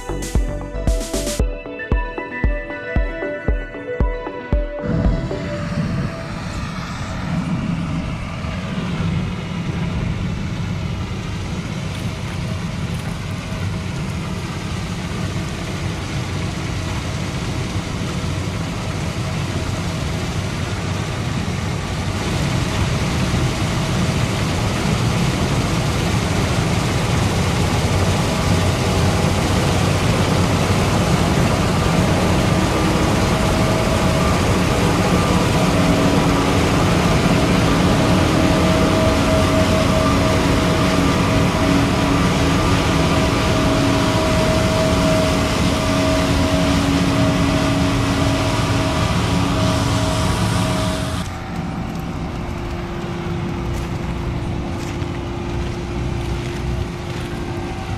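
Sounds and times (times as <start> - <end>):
combine harvester droning: 0.0 - 57.9.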